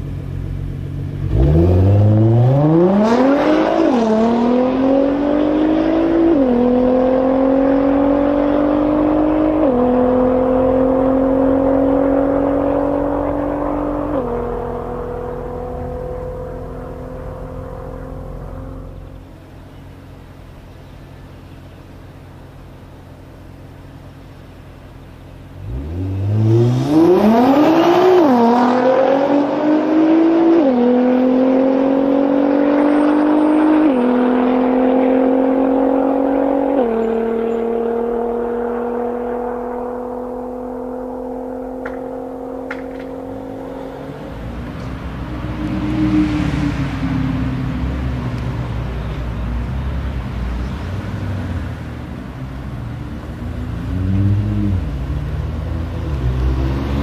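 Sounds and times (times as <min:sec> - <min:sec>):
car engine accelerating: 0:00.0 - 0:57.0
car pulling away at low revs: 0:00.0 - 0:57.0.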